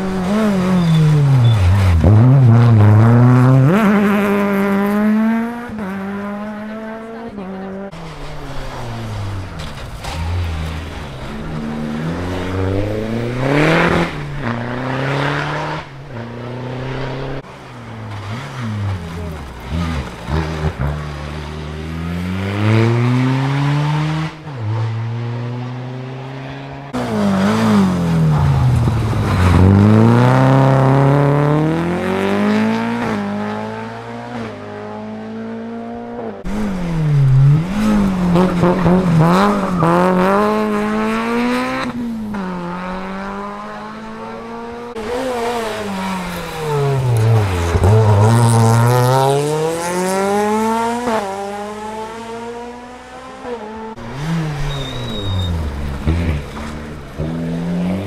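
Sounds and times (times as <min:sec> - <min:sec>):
rally car engines accelerating: 0:00.0 - 0:58.0.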